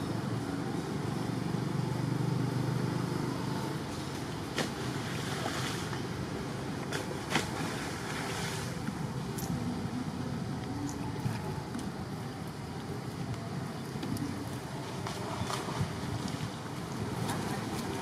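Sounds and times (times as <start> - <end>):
low outdoor rumble and hiss: 0.0 - 18.0.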